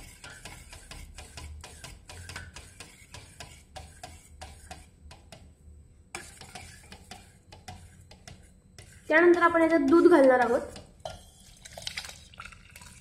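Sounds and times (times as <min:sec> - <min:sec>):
spoon scraping metal pot: 0:00.0 - 0:05.4, 0:06.1 - 0:13.0.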